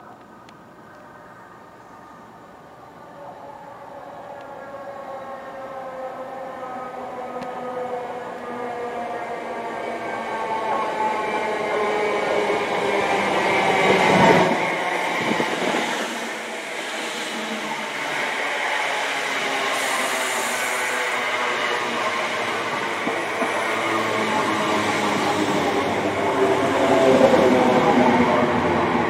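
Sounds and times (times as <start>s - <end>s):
train arriving with wheel rumble: 0.1s - 29.0s
electric train whine: 0.8s - 29.0s.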